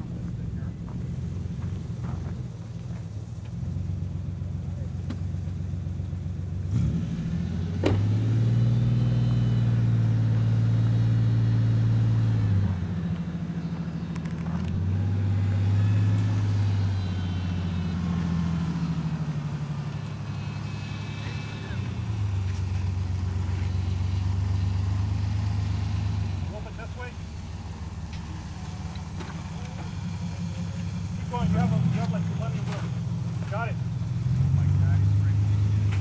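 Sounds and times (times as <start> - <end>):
truck engine pulling under load: 0.0 - 36.0.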